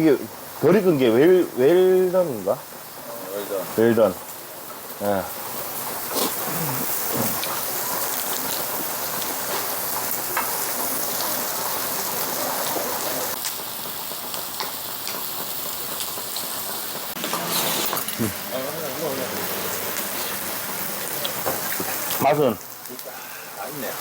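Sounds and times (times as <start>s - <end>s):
rain pattering: 0.0s - 24.0s
sharp crackles: 0.7s - 24.0s.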